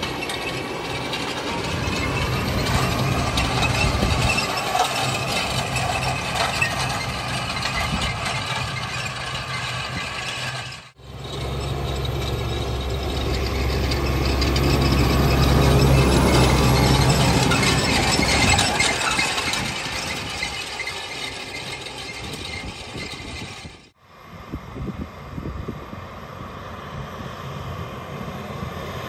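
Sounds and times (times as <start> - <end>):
cultivator rattling and clattering: 0.0 - 23.9
tractor diesel engine running: 0.0 - 24.0.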